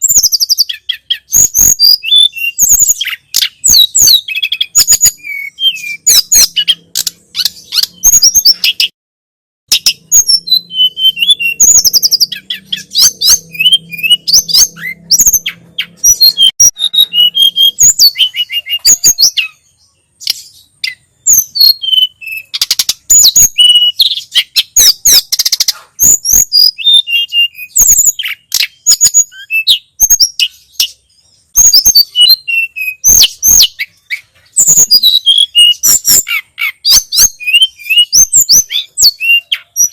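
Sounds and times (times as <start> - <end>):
songbird chirping and whistling: 0.0 - 9.0, 9.7 - 39.9.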